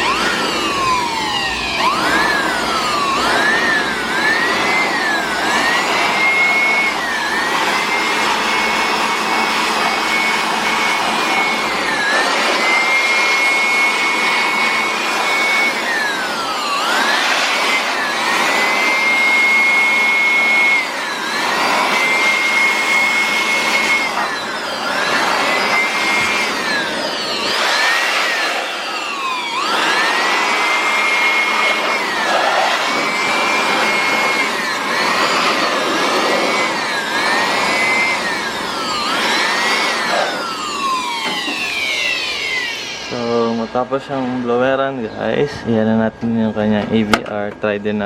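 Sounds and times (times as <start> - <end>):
electric blower motor whine: 0.0 - 48.0.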